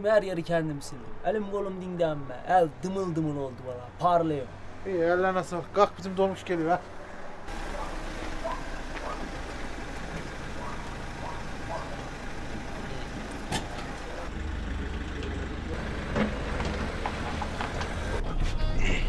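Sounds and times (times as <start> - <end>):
minibus engine rumbling: 0.0 - 19.0.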